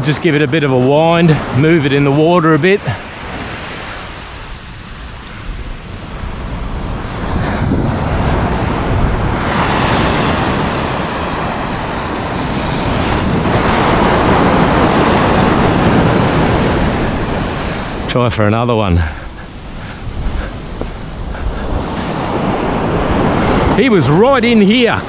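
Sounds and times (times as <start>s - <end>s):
surf breaking on beach: 0.0s - 25.0s
wind on microphone: 1.1s - 25.0s.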